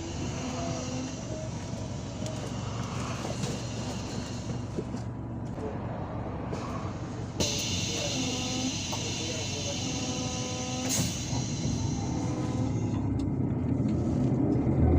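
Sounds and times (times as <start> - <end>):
bus engine and road noise: 0.0 - 14.9.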